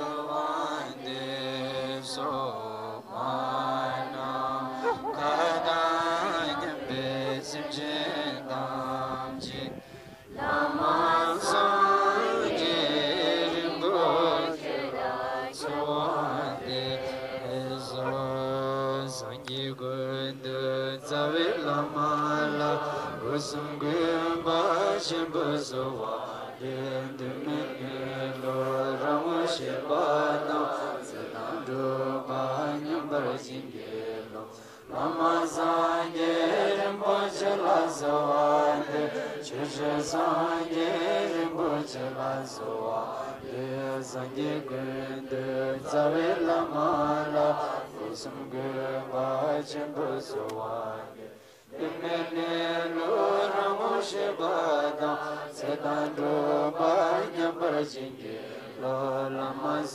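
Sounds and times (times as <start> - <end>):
voices chanting: 0.0 - 59.9.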